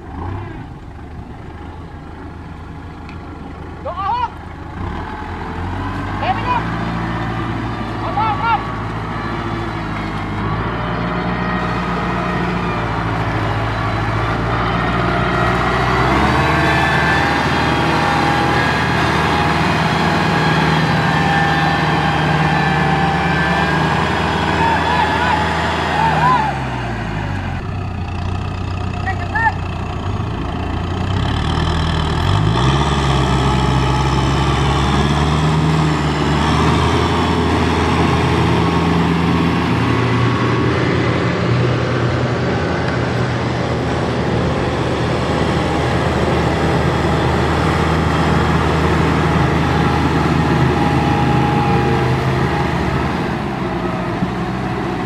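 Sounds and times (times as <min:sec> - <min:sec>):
tractor diesel engine revving: 0:00.0 - 0:55.0.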